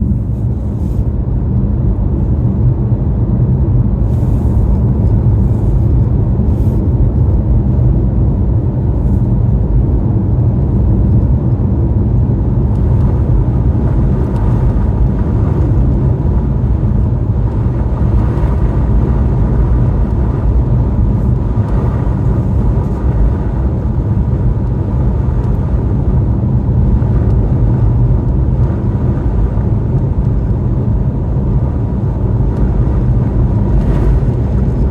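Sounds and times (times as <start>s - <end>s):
car engine rumble: 0.0s - 34.9s
road noise: 0.0s - 34.9s.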